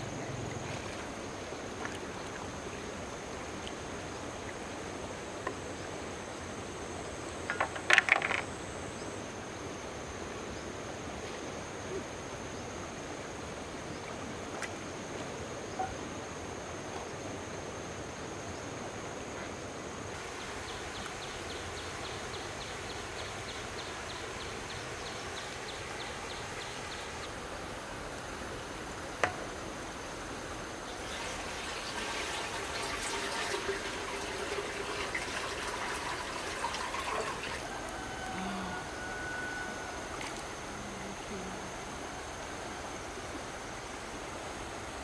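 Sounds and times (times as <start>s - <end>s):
flowing water hiss: 0.0s - 45.0s.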